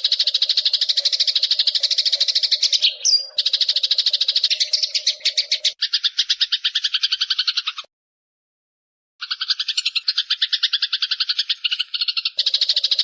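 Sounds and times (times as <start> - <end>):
sparrow trilling: 0.0 - 7.9, 9.2 - 13.0.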